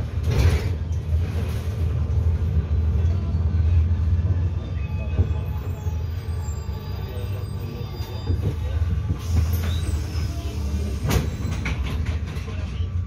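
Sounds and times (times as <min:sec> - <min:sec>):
bus rumbling on road: 0:00.0 - 0:13.0.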